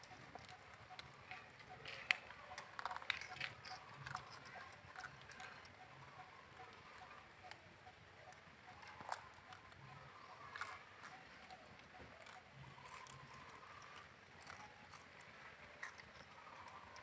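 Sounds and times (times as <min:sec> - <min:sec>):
monkey chewing cucumber: 0:00.0 - 0:17.0.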